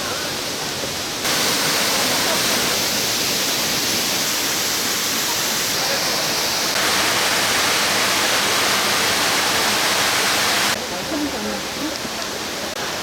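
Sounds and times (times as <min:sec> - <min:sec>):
rushing stream water: 0:00.0 - 0:13.0.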